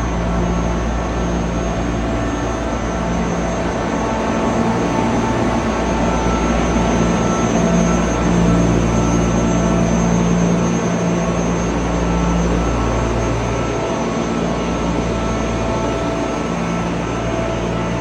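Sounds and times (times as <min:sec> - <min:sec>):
chiller unit rushing noise: 0:00.0 - 0:18.0.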